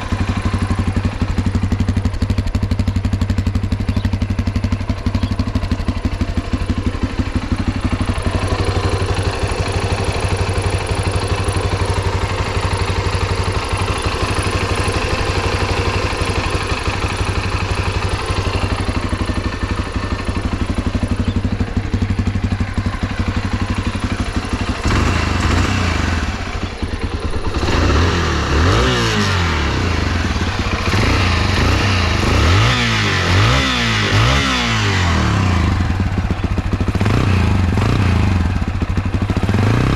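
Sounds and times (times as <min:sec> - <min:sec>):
engine throttle blips: 0:00.0 - 0:39.9
motorcycle engine idling: 0:00.0 - 0:39.9.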